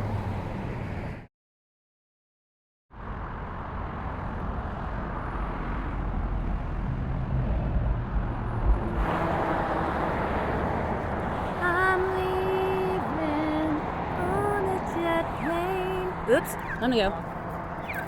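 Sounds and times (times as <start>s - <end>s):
road traffic rumble: 0.0s - 1.3s, 3.0s - 18.0s.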